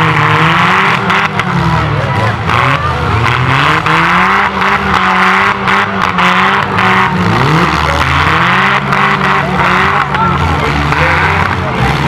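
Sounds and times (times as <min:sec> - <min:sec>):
car engines revving: 0:00.0 - 0:12.0
loud noisy rush: 0:00.0 - 0:12.0.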